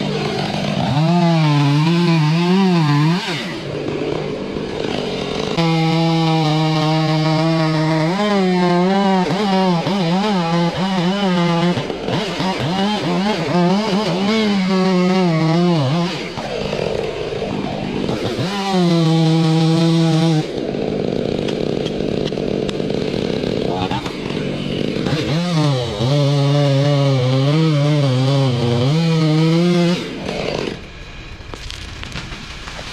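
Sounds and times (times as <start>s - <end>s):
chainsaw running at high revs: 0.0s - 32.9s
rough noisy saw: 0.0s - 32.9s.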